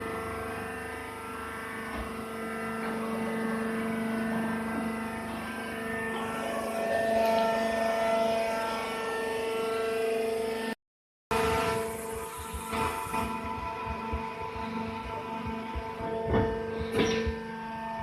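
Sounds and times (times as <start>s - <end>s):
baler machinery droning: 0.0s - 18.0s.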